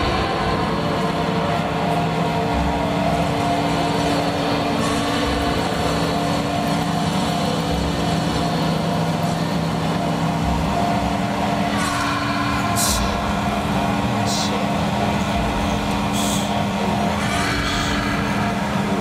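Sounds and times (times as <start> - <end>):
mechanical rumble with low hum: 0.0 - 19.0.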